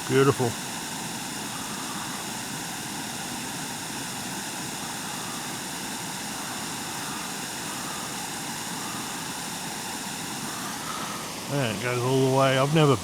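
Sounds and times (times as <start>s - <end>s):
waterfall and creek rushing: 0.0s - 13.0s.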